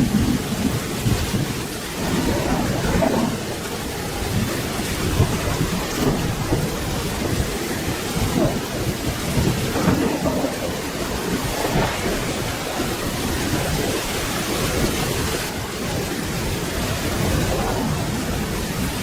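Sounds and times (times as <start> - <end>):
low rumble of thunder: 0.0 - 19.0
rain falling: 0.0 - 19.0.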